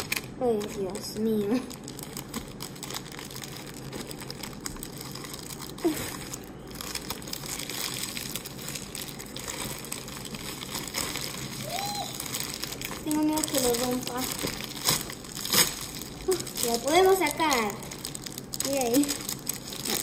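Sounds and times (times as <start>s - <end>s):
crinkly packaging rustling: 0.0s - 20.0s.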